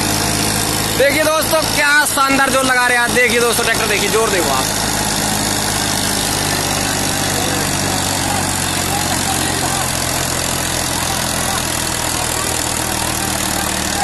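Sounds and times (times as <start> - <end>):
diesel tractor engine working hard: 0.0 - 14.0.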